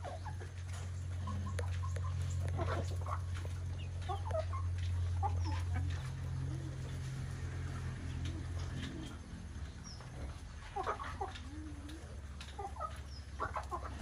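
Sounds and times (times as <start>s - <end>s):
chickens clucking: 0.0s - 14.0s
steady low hum: 0.0s - 14.0s.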